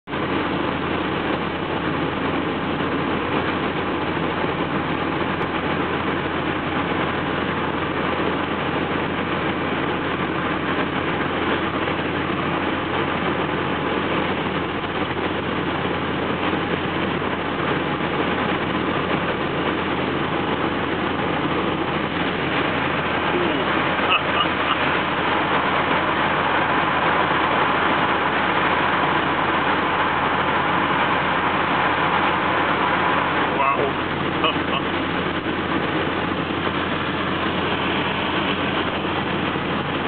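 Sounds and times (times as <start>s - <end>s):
car engine drone: 0.0s - 40.0s
tyres hissing on wet road: 0.1s - 40.0s.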